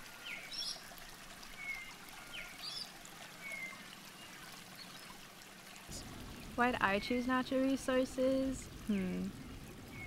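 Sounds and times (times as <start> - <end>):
running water: 0.0 - 10.0.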